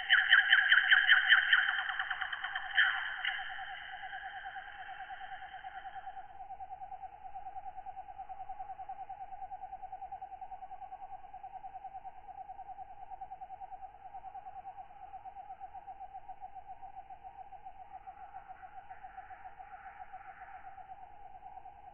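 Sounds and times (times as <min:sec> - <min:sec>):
night insects chorus: 0:00.0 - 0:21.9.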